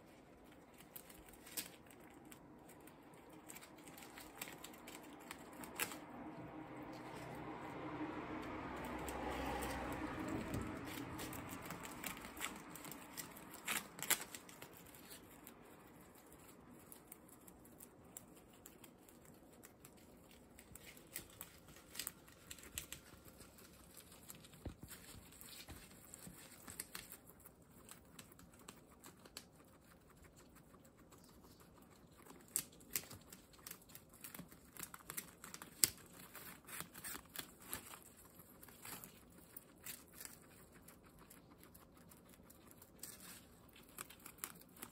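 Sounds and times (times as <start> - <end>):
guinea pigs chewing leaves: 0.0 - 44.9.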